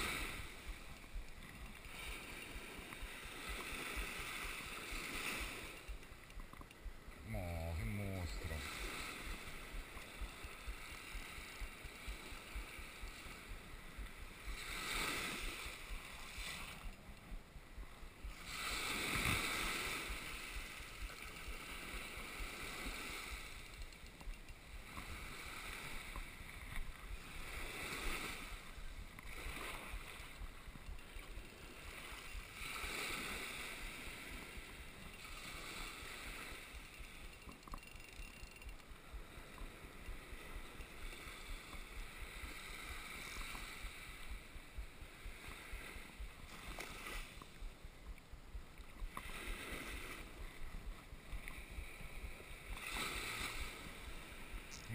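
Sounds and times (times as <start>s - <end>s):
small waves breaking on sand: 0.0s - 54.9s.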